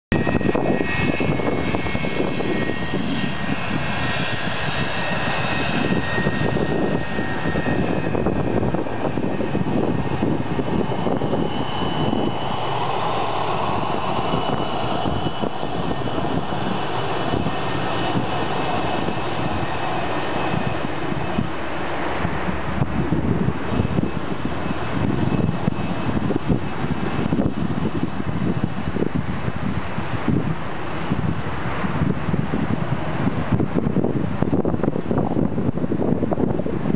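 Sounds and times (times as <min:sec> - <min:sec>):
jet airliner taxiing rumble: 0:00.1 - 0:36.9.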